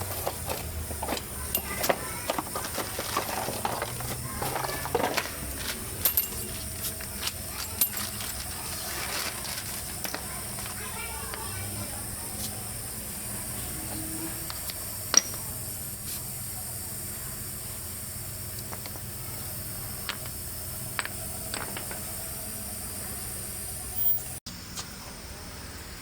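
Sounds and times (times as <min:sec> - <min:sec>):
car engine running: 0:00.0 - 0:24.4.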